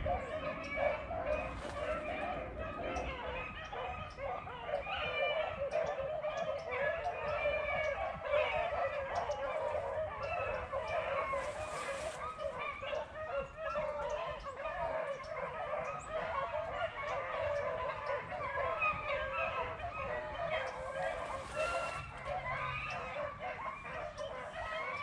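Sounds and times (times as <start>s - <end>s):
pack of dogs baying: 0.0s - 25.0s.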